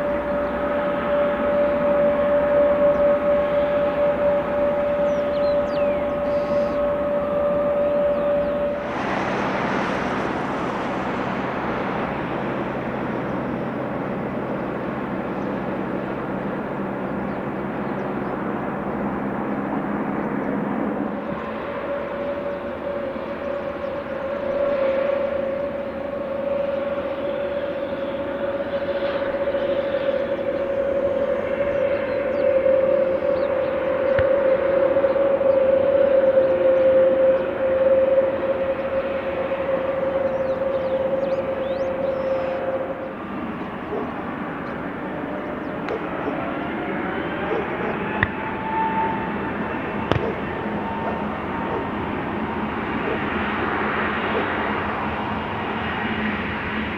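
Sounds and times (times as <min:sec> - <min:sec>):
jet engines rushing: 0:00.0 - 0:56.9
steady engine whine: 0:00.0 - 0:56.9.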